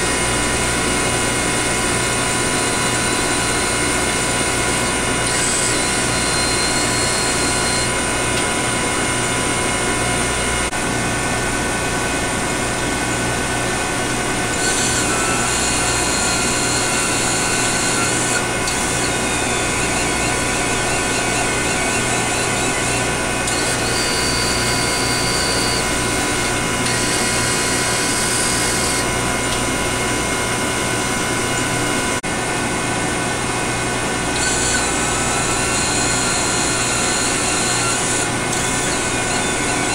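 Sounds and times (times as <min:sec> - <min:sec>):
machine hum with whining tones: 0:00.0 - 0:39.9.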